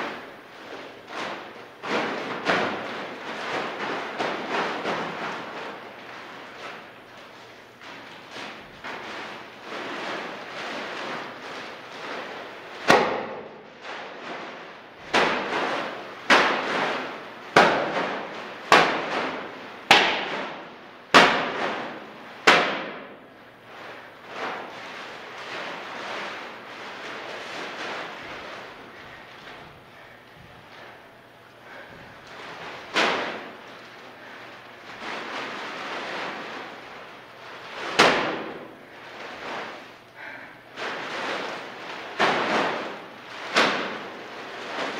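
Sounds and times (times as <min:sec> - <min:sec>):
clay bag slapping floor: 0:00.0 - 0:44.9.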